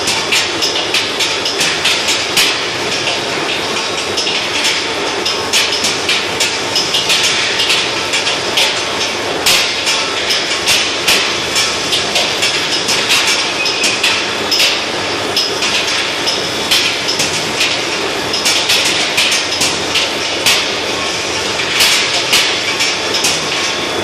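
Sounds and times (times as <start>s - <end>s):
metallic clicks and clanks: 0.0s - 20.8s, 21.5s - 23.8s.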